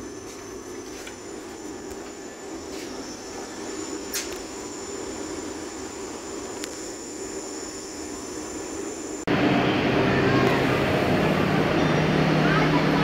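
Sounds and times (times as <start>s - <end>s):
train coach hum: 0.0s - 13.0s.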